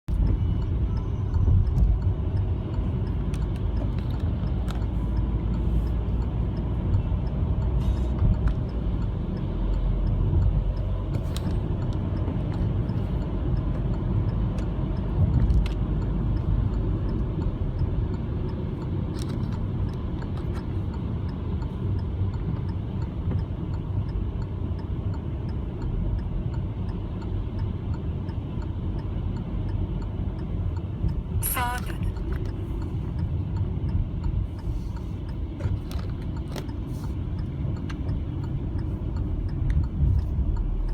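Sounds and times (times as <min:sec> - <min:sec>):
car driving rumble inside cabin: 0:00.0 - 0:40.9.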